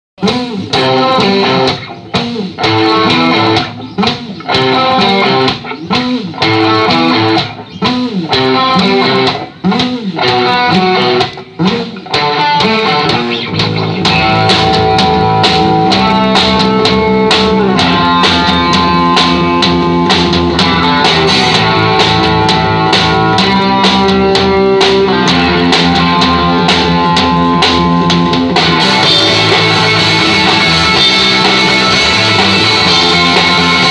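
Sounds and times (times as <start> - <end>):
drum kit: 0.2 - 33.9
electric guitars: 0.2 - 33.9.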